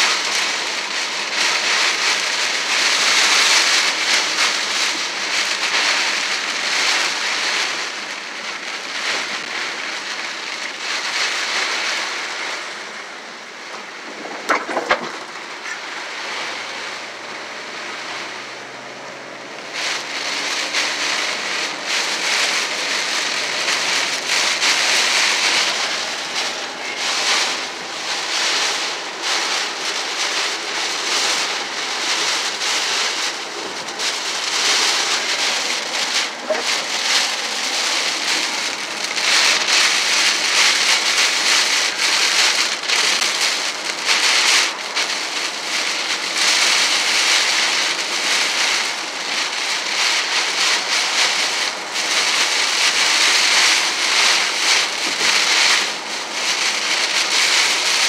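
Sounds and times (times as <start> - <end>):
rain on vehicle windshield: 0.0 - 58.0
tyre noise on wet road: 0.0 - 58.0.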